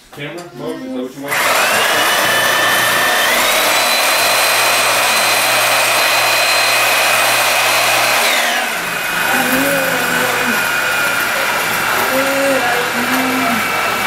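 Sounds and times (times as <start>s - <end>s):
electric power tool whining: 1.3s - 14.0s.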